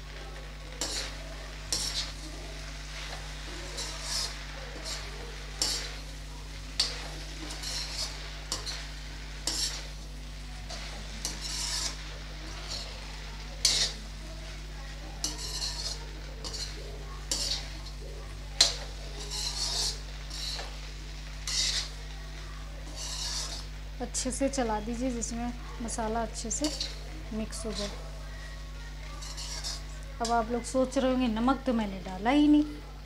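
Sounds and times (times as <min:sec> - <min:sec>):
steel spoon scraping a pan: 0:00.8 - 0:30.8.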